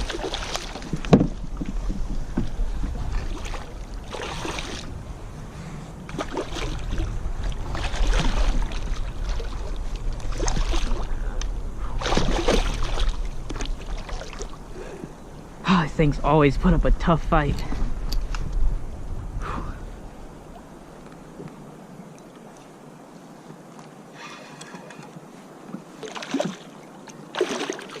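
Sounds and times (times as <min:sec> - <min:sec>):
water splashing around kayak: 0:00.0 - 0:15.6, 0:20.2 - 0:28.0
wind buffeting microphone: 0:00.0 - 0:23.7.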